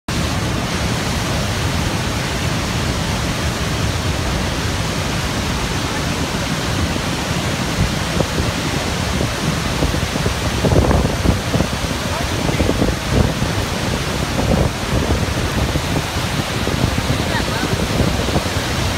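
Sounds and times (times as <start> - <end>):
waterfall rushing: 0.1 - 18.9.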